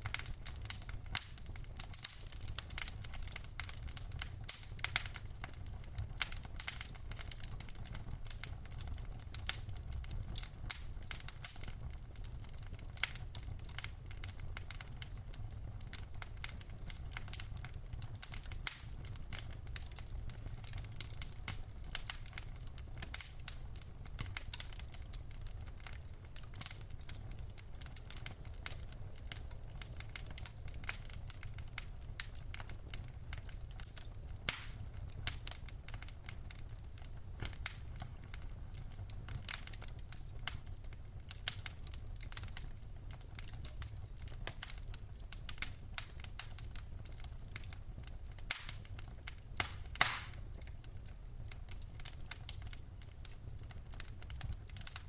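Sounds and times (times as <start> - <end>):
low rumble of flames: 0.0 - 55.0
wood fire crackling: 0.0 - 55.0.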